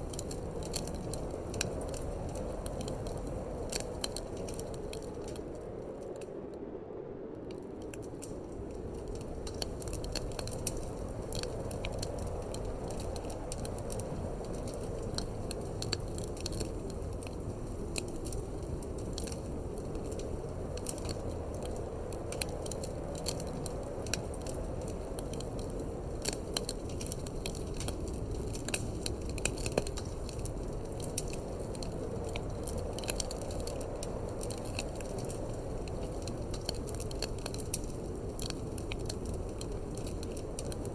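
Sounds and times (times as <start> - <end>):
wood fire crackling and popping: 0.0 - 6.5, 7.4 - 40.9.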